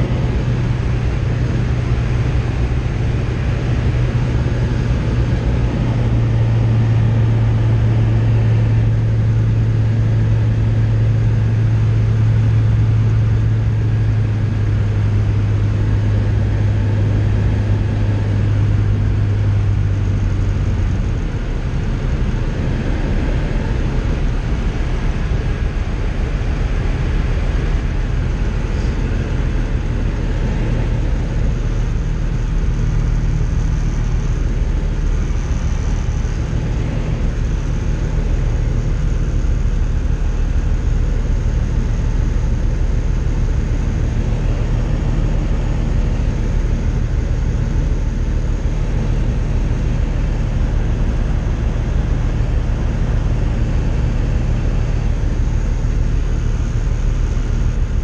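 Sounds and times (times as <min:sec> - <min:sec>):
rushing airflow: 0:00.0 - 0:13.2, 0:13.8 - 0:58.0
light aircraft engine droning: 0:00.0 - 0:58.0.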